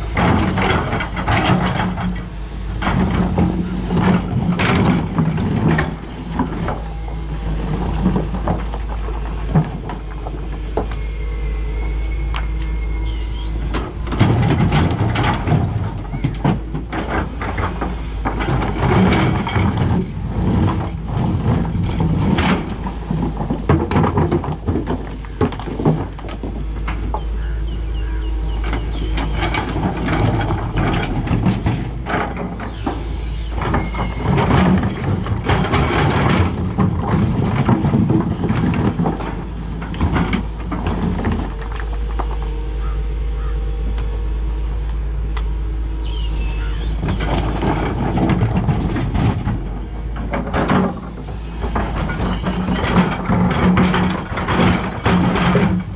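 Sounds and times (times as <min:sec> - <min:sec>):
clanks and knocks: 0:00.0 - 0:11.0, 0:13.0 - 0:44.1, 0:46.0 - 0:55.9
excavator diesel engine: 0:00.0 - 0:55.9.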